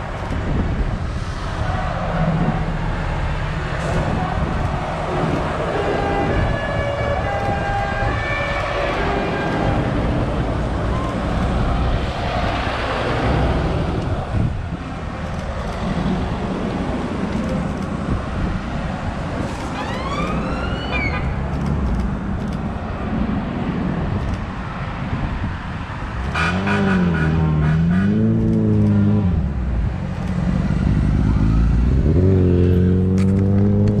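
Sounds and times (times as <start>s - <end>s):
traffic engine drone: 0.0s - 34.0s
vehicles driving past rumbling: 0.0s - 34.0s.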